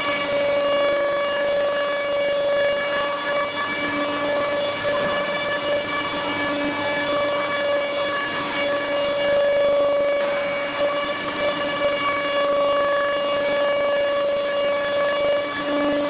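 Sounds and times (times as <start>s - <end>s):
stone router spindle whine: 0.0s - 16.0s.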